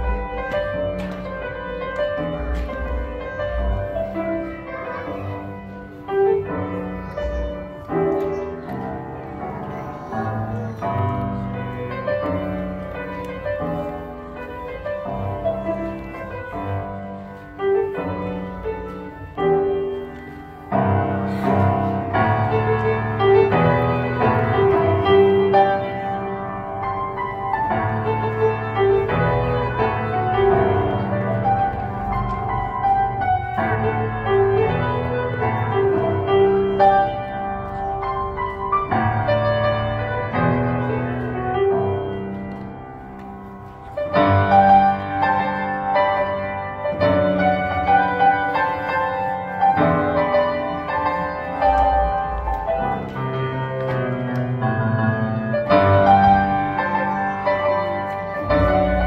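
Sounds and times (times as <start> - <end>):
solo grand piano: 0.0 - 59.0.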